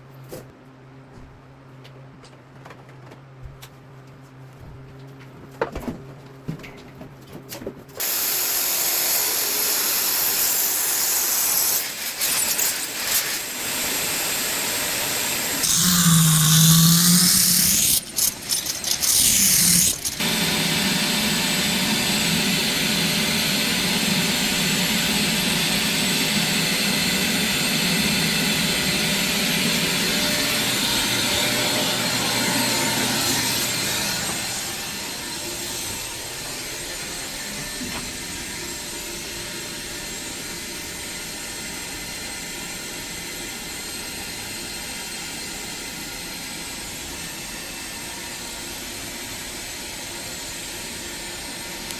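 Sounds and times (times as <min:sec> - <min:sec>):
power tool running under load: 0:08.0 - 0:51.9.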